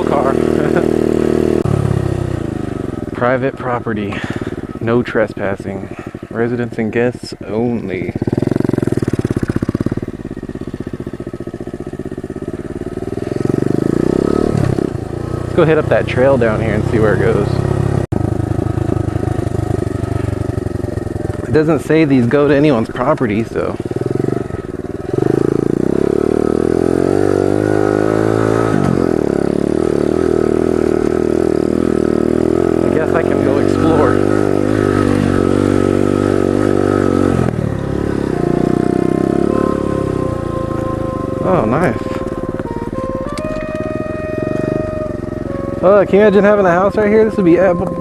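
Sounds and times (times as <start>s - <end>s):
small motorbike engine running: 0.0s - 48.0s.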